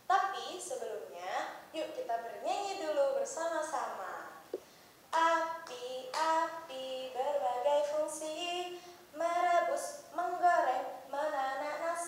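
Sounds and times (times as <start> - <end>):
woman singing a children's song: 0.1 - 4.3, 5.1 - 12.0.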